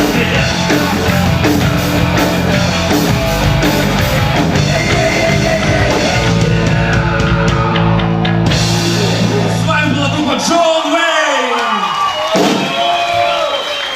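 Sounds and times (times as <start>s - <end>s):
rock band playing live: 0.0s - 13.3s.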